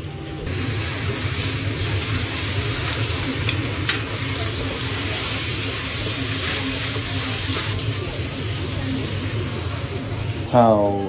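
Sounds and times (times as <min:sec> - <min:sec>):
food sizzling in a pan: 0:00.0 - 0:10.5.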